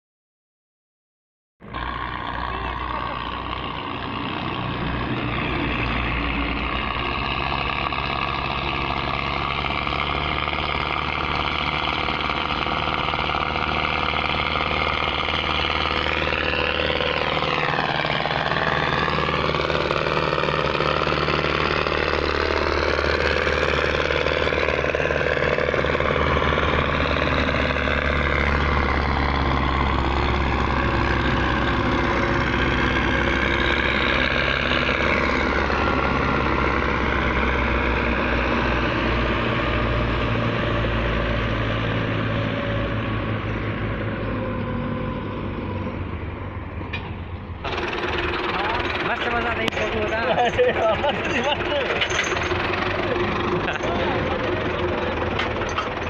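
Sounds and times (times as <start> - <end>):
tractor diesel engines under load: 1.6 - 56.0.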